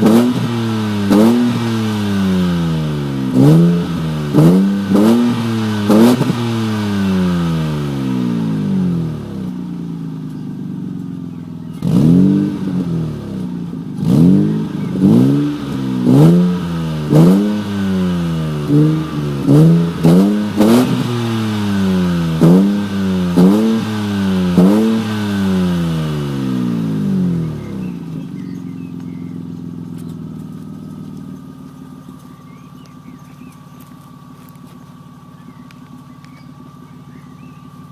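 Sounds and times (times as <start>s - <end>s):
car engine idling: 0.0s - 37.9s
car engine revving: 0.0s - 37.9s.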